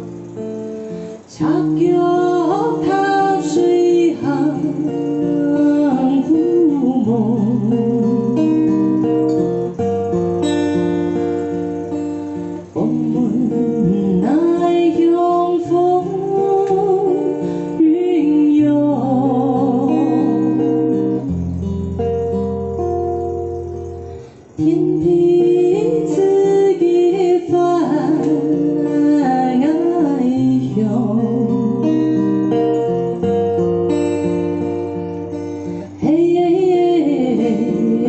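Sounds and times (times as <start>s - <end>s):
acoustic guitar strummed and picked: 0.0s - 38.0s
woman singing: 0.8s - 10.1s, 11.0s - 21.8s, 24.6s - 38.0s.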